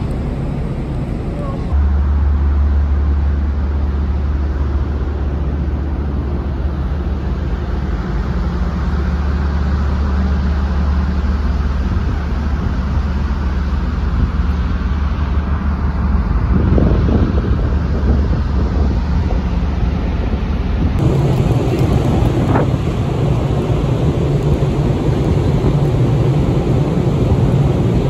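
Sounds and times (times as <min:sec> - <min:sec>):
low drone of ship engines: 0:00.0 - 0:28.0
wind gusts on microphone: 0:03.6 - 0:28.0.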